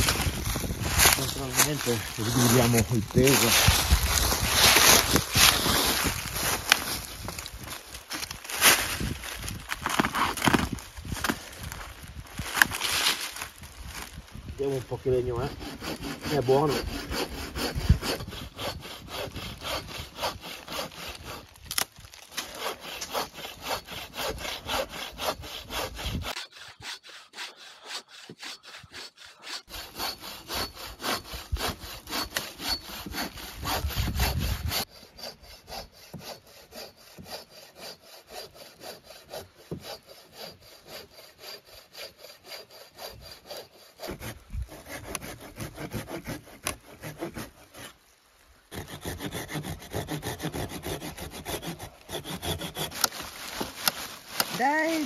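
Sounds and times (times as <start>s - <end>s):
hand saw cutting wood: 0.0s - 13.4s, 14.0s - 48.0s, 48.7s - 55.0s.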